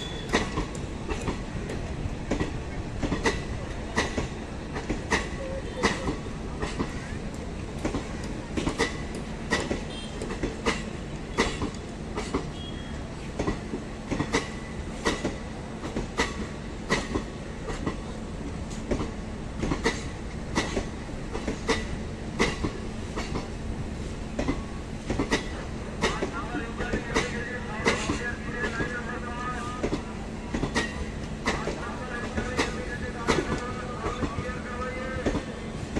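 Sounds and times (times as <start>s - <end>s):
wheels clacking on rail joints: 0.0s - 23.6s, 24.2s - 34.6s
train rumbling: 0.0s - 35.9s.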